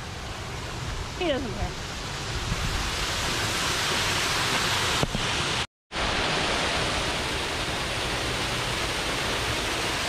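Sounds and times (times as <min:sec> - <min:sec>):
water rushing over stone dam: 0:00.0 - 0:10.0.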